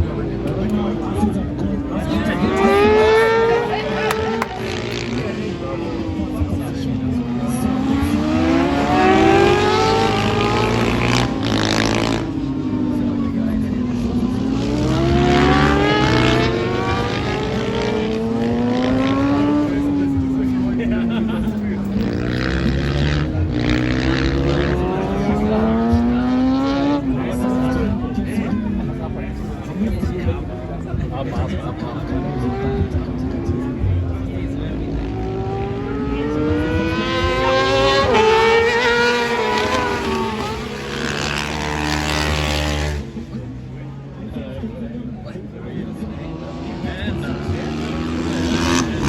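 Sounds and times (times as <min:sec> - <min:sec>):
motorcycle engine accelerating: 0:00.0 - 0:28.8, 0:31.6 - 0:44.2, 0:45.7 - 0:49.0.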